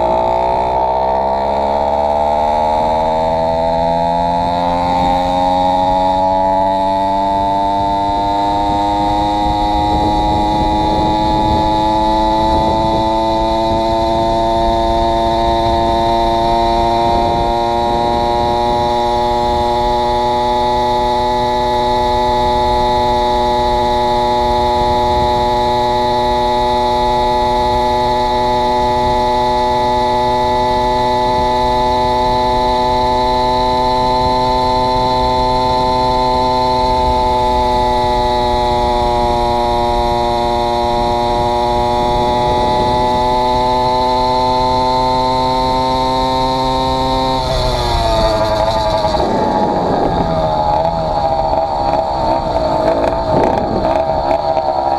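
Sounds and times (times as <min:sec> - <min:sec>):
two-stroke bicycle engine running: 0:00.0 - 0:54.9.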